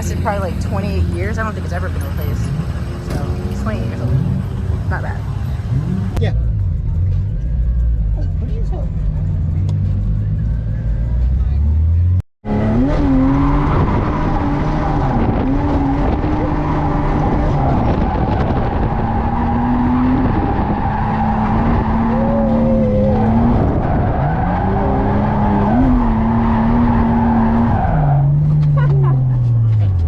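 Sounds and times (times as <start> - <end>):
car engine at high revs: 0.0 - 30.0.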